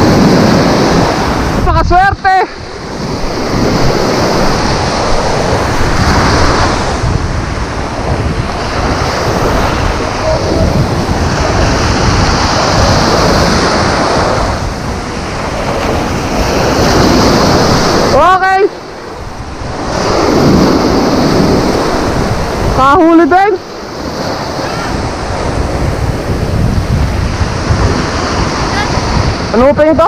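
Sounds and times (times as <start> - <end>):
rough surf breaking: 0.0 - 30.0
wind buffeting microphone: 0.0 - 30.0.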